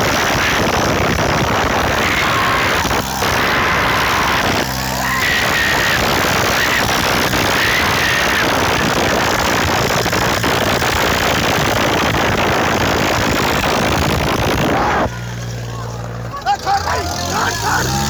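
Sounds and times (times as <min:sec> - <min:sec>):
tractor engines running under load: 0:00.0 - 0:18.0.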